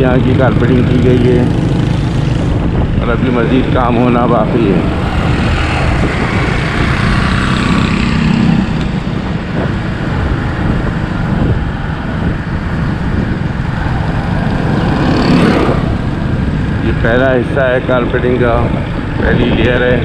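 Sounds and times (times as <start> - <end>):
motorcycle engine and road noise: 0.0 - 20.0
wind noise on microphone: 0.0 - 20.0.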